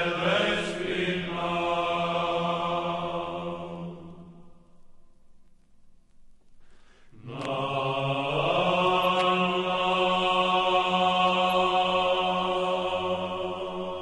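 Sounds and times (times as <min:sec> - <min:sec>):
chant-like vocal music: 0:00.0 - 0:05.0, 0:07.0 - 0:14.0.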